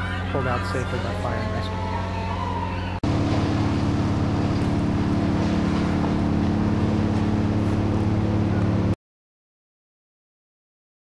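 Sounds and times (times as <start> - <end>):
engine idling: 0.0 - 9.0.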